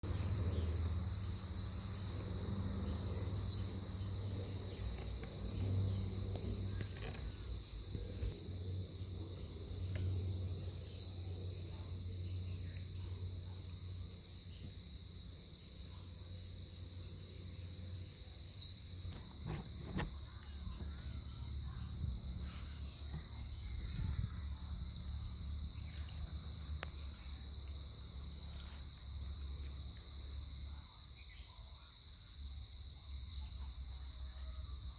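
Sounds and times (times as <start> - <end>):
insect chorus: 0.0 - 34.9.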